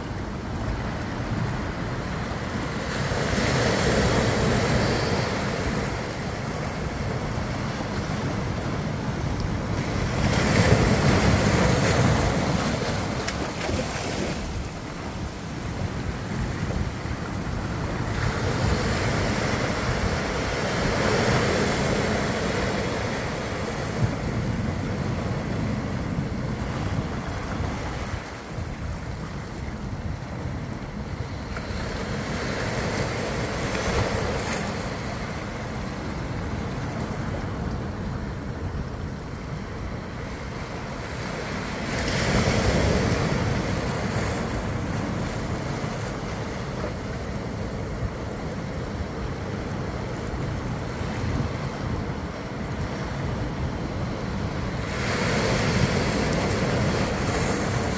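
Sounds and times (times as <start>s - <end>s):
ocean surf washing ashore: 0.0s - 57.9s
wind on microphone: 0.0s - 57.9s.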